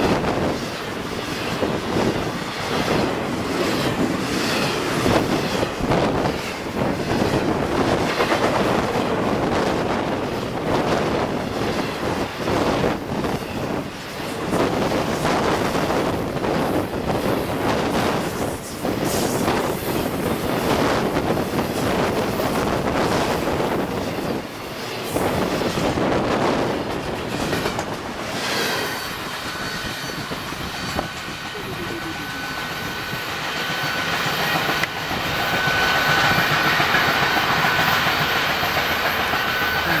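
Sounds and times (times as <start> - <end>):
train wheels clattering over rail joints: 0.0 - 40.0.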